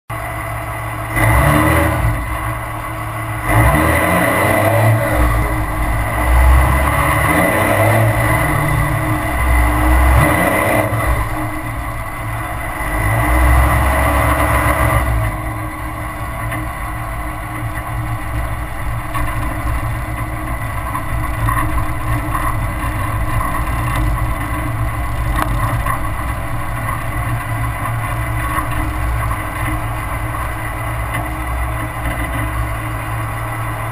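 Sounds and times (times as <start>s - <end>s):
diesel engine revving: 0.1s - 33.9s.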